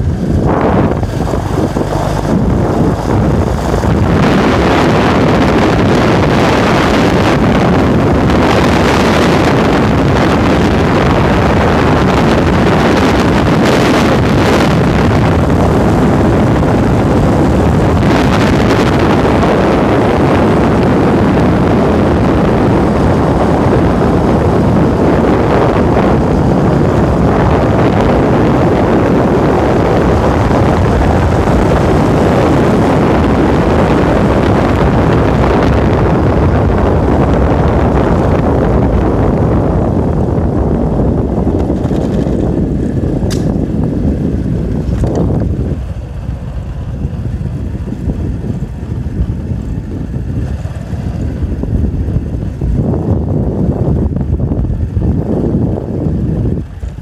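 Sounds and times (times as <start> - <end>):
vehicle road noise: 0.0 - 57.0
wind rushing over microphone: 0.0 - 57.0.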